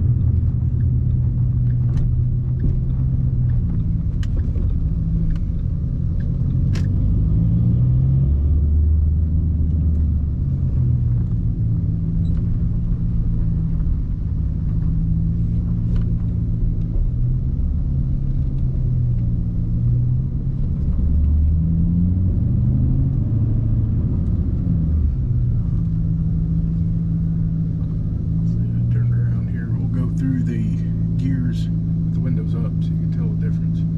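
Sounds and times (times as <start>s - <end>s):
car exhaust running: 0.0s - 33.9s.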